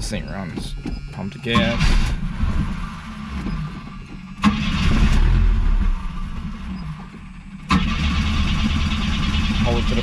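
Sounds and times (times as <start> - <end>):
car engine cranking: 1.0 - 10.0.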